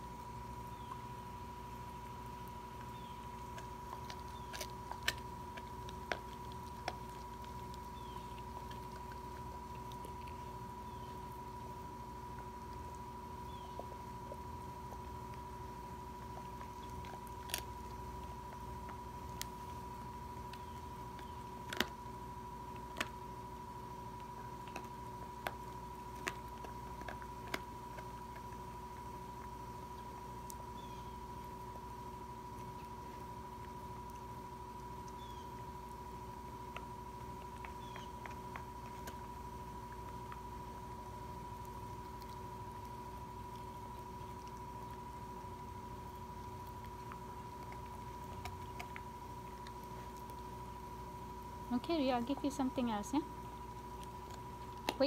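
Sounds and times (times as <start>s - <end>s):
dog crunching on bone: 0.0s - 55.0s.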